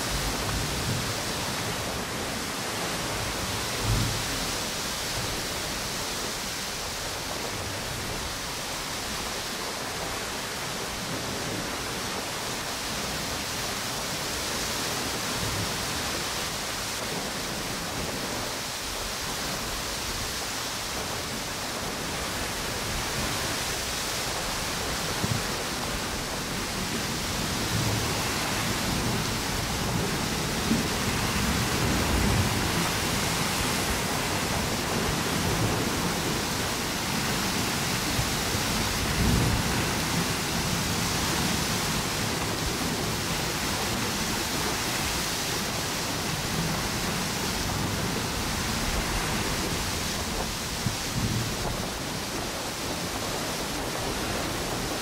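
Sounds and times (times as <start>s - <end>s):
ocean surf: 0.0s - 55.0s
strong wind: 0.0s - 55.0s.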